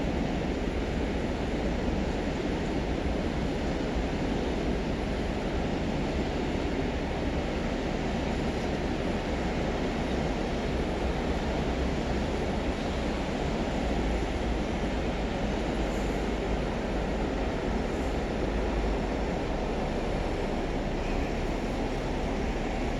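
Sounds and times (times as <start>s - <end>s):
train wheels on rails: 0.0s - 22.9s.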